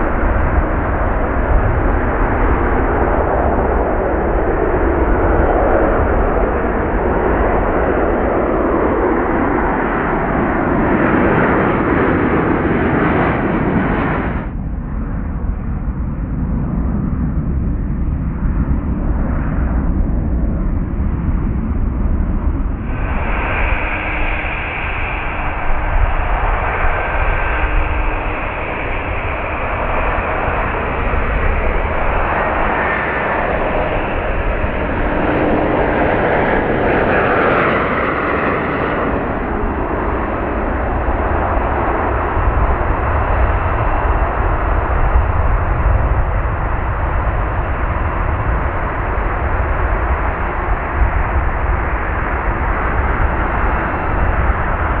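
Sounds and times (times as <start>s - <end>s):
high jet engine whine: 0.0s - 55.0s
jet engines roaring: 0.0s - 55.0s.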